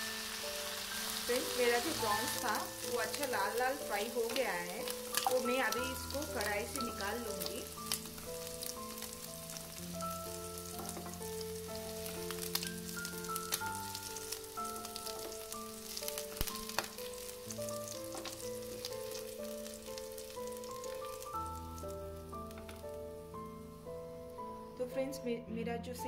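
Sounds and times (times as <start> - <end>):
hot oil sizzling and crackling: 0.0 - 24.8
slow melodic background music: 0.0 - 26.0.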